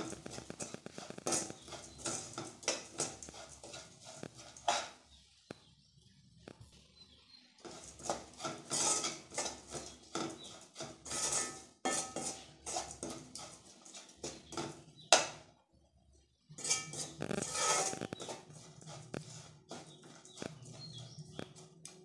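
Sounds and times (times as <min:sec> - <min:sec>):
spatula clacking on pan: 0:00.0 - 0:05.1, 0:07.6 - 0:15.5, 0:16.6 - 0:22.0
metal spatula scraping a pan: 0:00.0 - 0:05.4, 0:07.6 - 0:15.5, 0:16.5 - 0:22.0.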